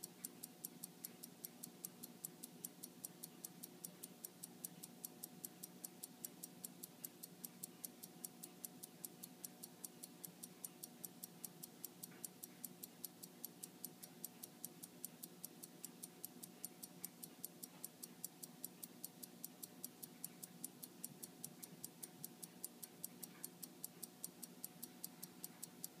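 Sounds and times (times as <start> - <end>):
watch ticking faintly: 0.0 - 26.0.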